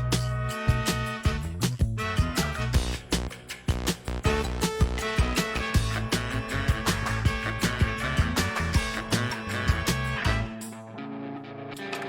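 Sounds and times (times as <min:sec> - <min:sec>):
guitar music over a beat: 0:00.0 - 0:12.0.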